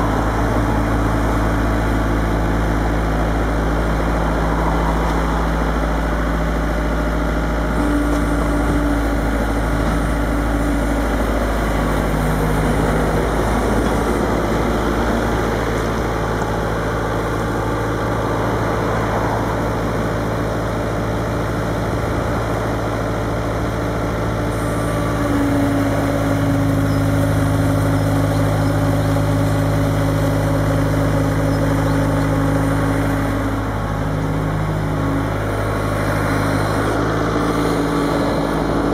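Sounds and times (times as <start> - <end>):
loader diesel engine running: 0.0 - 38.9.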